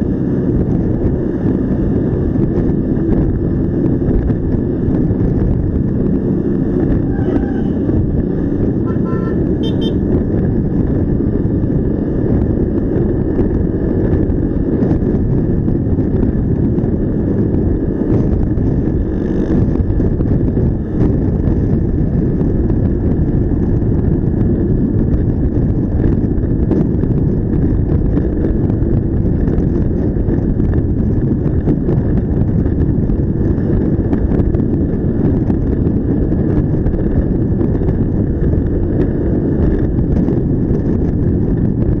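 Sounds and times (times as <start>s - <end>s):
road noise: 0.0s - 42.0s
vehicle engine: 0.0s - 42.0s
wind buffeting microphone: 0.0s - 42.0s.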